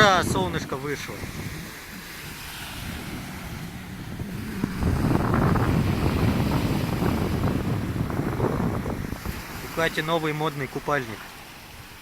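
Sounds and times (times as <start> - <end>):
sea surf washing: 0.0 - 12.0
wind buffeting microphone: 0.0 - 12.0.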